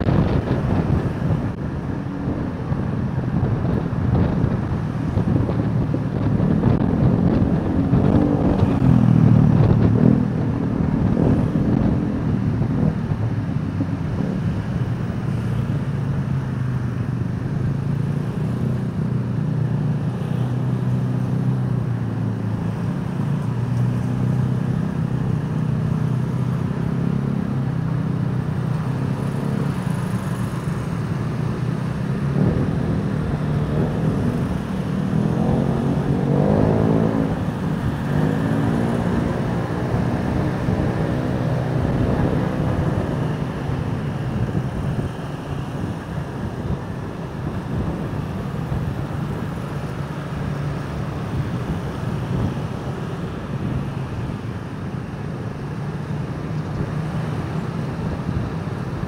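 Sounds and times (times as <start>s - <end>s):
vehicle engines running: 0.0s - 59.0s
vehicles accelerating past: 0.0s - 59.0s.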